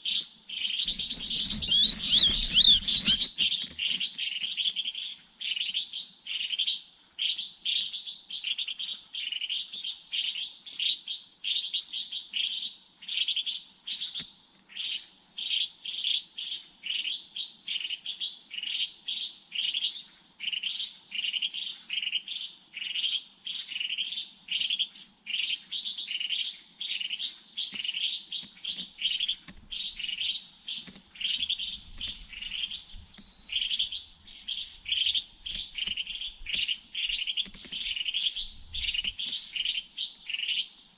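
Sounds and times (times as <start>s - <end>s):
small bird chirping: 0.0s - 40.9s.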